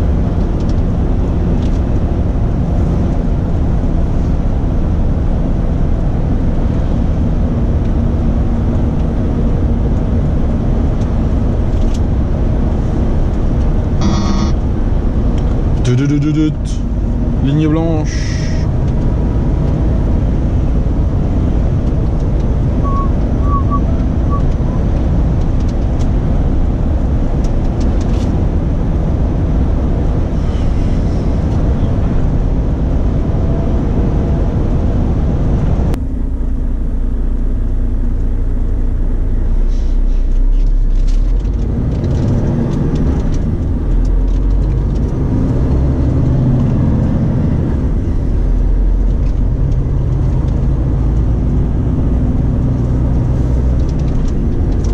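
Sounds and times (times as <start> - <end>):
road and tyre noise: 0.0 - 54.9
truck engine drone: 0.0 - 54.9.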